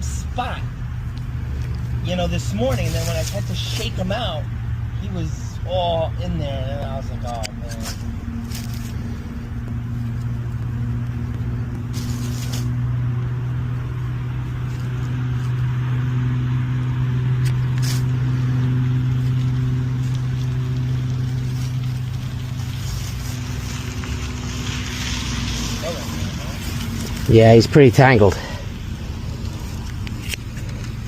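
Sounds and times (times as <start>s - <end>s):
engine idling hum: 0.0s - 31.0s.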